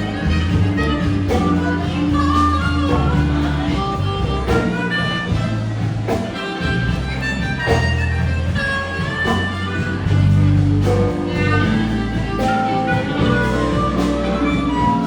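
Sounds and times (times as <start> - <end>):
live band instrumental music: 0.0 - 15.0.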